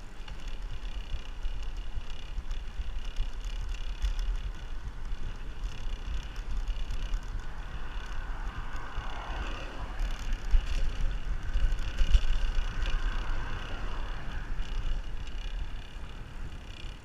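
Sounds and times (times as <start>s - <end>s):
bicycle tyre and road noise: 0.0s - 17.0s
wind buffeting microphone: 0.0s - 17.0s.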